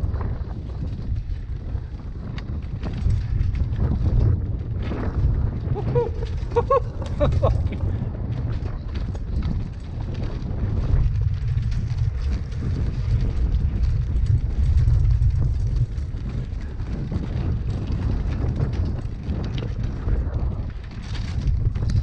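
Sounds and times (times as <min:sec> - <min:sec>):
bike rattles and clicks: 0:00.0 - 0:22.0
low rumble of bike on trail: 0:00.0 - 0:22.0
wind buffeting microphone: 0:00.0 - 0:22.0.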